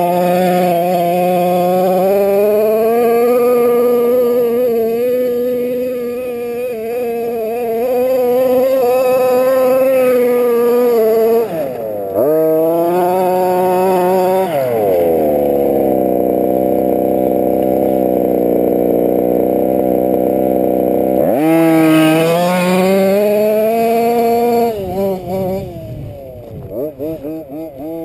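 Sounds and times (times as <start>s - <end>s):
small two-stroke engine revving: 0.0s - 28.0s.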